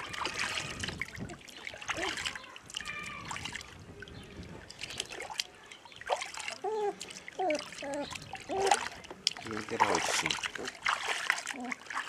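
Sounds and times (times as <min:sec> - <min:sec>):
light water splashes: 0:00.0 - 0:12.0
water trickling and dripping: 0:00.0 - 0:12.0.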